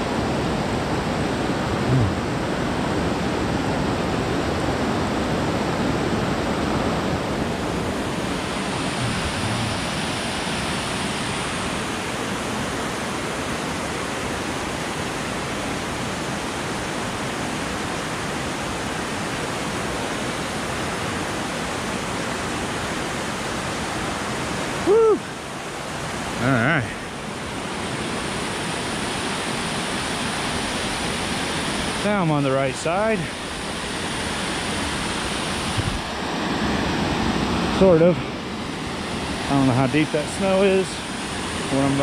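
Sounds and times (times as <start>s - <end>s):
fast-flowing creek rushing: 0.0s - 42.0s.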